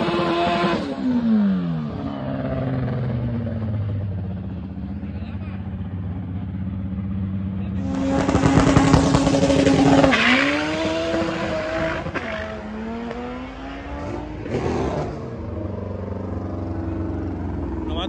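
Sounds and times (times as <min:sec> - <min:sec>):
race car engine revving: 0:00.0 - 0:05.0, 0:05.6 - 0:18.0
engines idling: 0:00.8 - 0:18.0.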